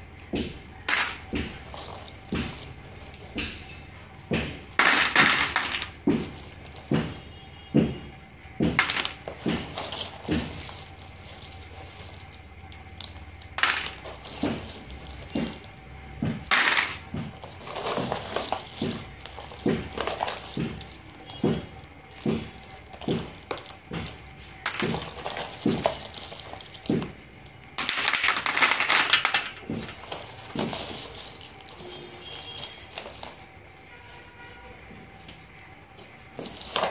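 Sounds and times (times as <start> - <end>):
slate pencils clattering in box: 0.8 - 7.3, 8.8 - 33.6, 36.3 - 36.9.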